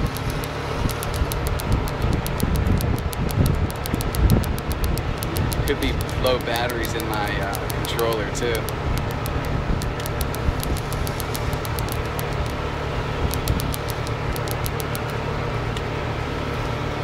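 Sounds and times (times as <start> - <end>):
quick sharp clicks: 0.0 - 12.6, 13.2 - 15.2
wind rumbling on microphone: 0.0 - 15.2
faint steady whine: 0.0 - 17.0.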